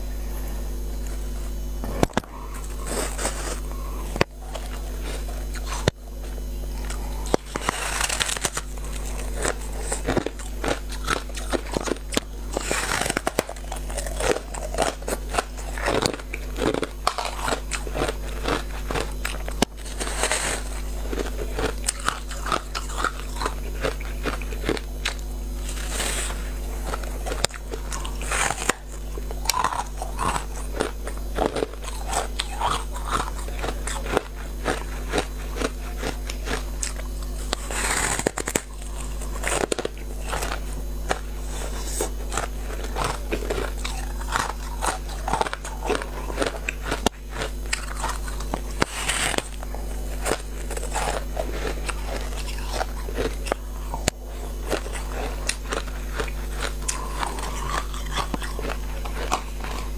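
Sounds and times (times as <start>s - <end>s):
steady low hum: 0.0s - 59.9s
crackly chewing crunches: 1.0s - 59.9s.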